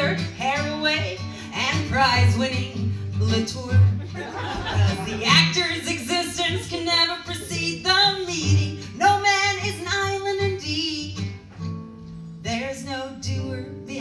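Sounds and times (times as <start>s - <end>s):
woman singing: 0.0s - 4.2s, 4.8s - 11.4s, 12.4s - 14.0s
acoustic guitar: 0.0s - 14.0s.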